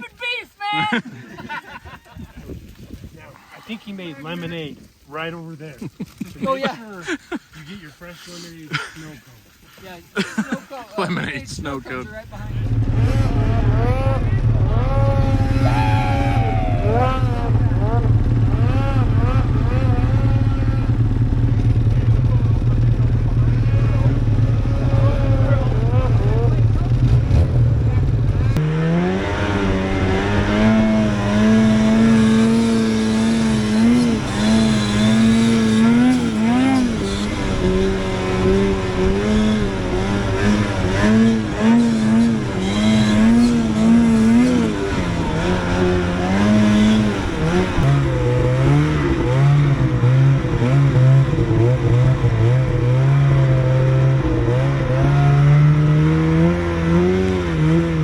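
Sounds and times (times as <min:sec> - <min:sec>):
snowmobile engine revving: 0:10.2 - 0:58.0.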